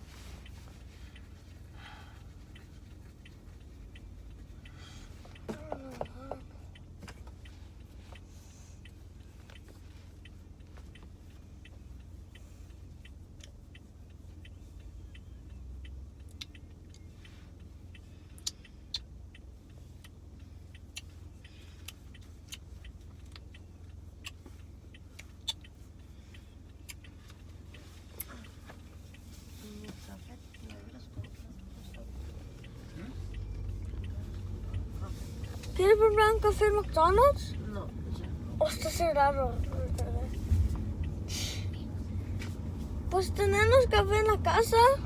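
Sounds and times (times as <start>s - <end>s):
car rumbling on the move: 0.0s - 45.0s.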